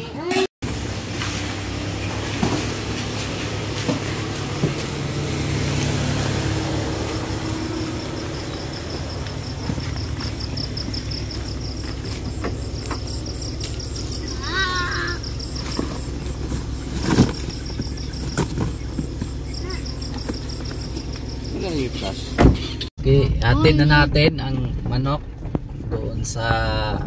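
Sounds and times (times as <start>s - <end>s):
car engine idling: 0.6s - 27.0s.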